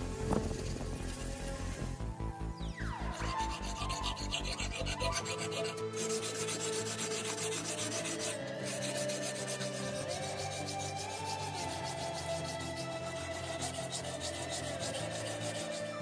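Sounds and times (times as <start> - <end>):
background music: 0.0 - 16.0
sandpaper rubbing on steel: 3.0 - 16.0.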